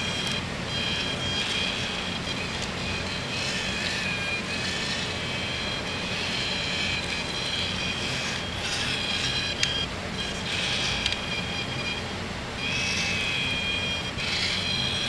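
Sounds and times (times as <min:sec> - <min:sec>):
servos whining: 0:00.0 - 0:15.0.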